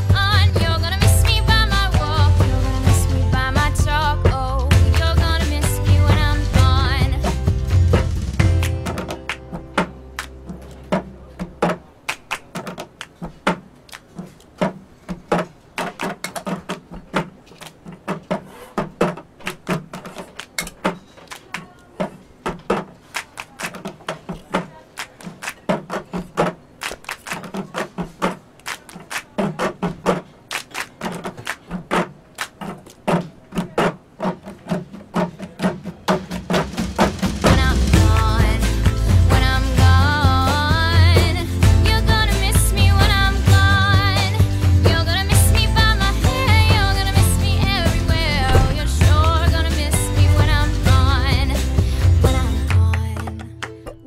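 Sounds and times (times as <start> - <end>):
hand claps: 4.6 - 54.0.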